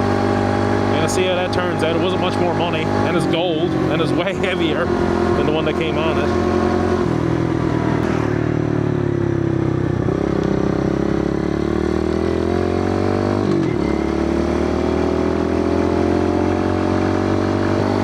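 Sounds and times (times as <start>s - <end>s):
small motorbike engine revving: 0.0s - 8.8s, 10.0s - 18.0s.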